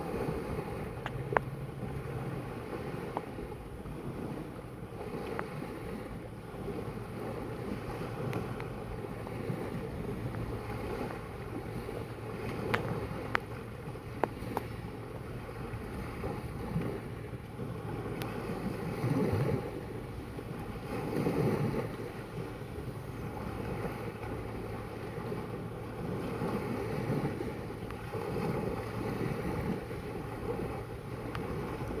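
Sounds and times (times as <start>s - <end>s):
sea water lapping: 0.0s - 32.0s
wind buffeting microphone: 0.0s - 32.0s.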